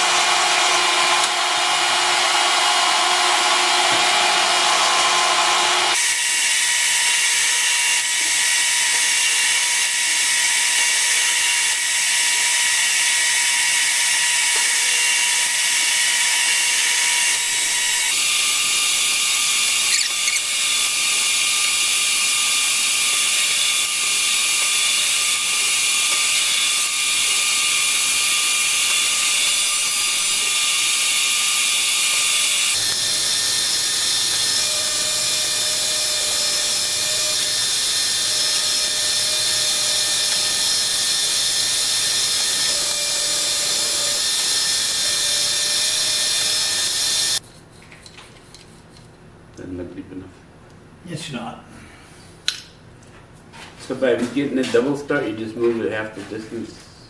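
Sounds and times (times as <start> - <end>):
metal lathe whirring: 0.0 - 47.4.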